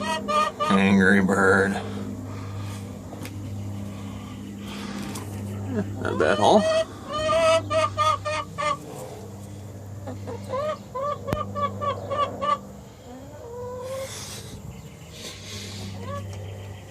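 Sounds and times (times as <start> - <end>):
hen clucking angrily: 0.0 - 16.8.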